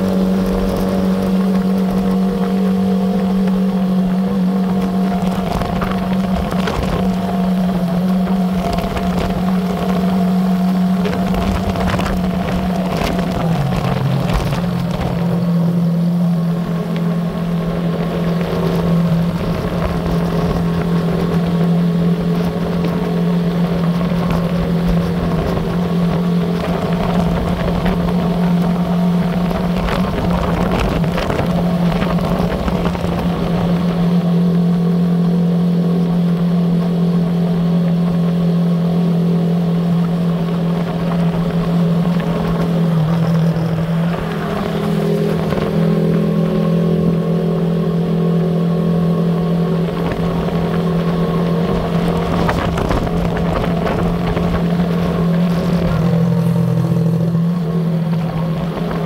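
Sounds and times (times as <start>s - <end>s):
road noise: 0.0s - 59.0s
vehicle engine humming: 0.0s - 59.0s
wind: 0.0s - 59.0s.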